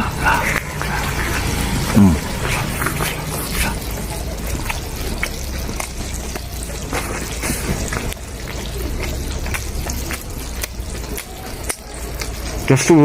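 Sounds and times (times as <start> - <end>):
liquid bubbling in a pot: 0.0 - 13.0.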